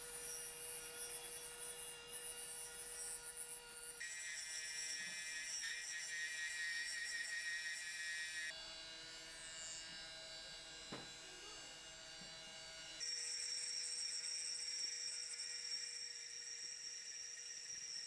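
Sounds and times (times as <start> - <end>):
lathe motor whine: 0.0 - 18.0.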